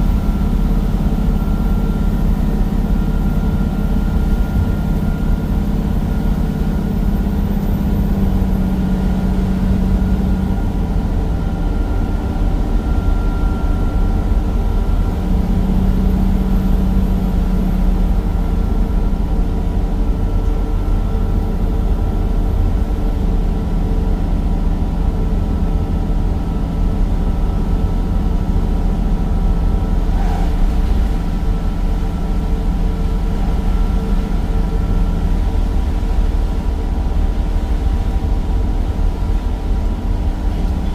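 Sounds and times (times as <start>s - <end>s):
faint high whine: 0.0s - 23.5s, 25.9s - 40.9s
bus engine droning: 0.0s - 40.9s.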